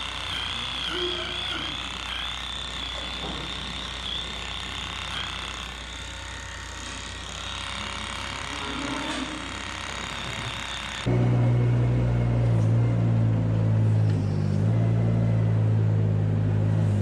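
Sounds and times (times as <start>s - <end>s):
electric clipper whining: 0.0s - 15.6s
low machinery hum: 0.0s - 17.0s.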